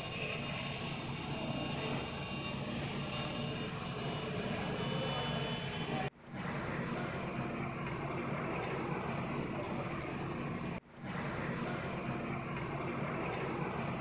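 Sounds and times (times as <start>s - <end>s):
induction heater whine: 0.0s - 14.0s
machine noise: 0.0s - 14.0s.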